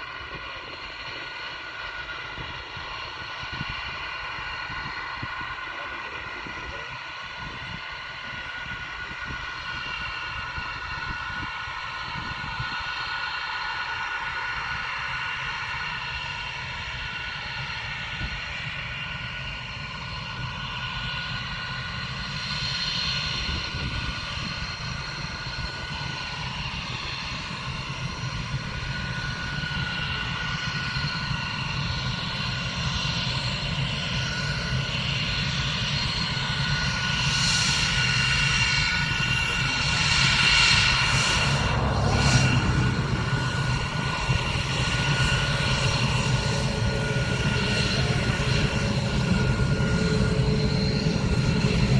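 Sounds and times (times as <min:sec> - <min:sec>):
jet aircraft engines whining: 0:00.0 - 0:51.9.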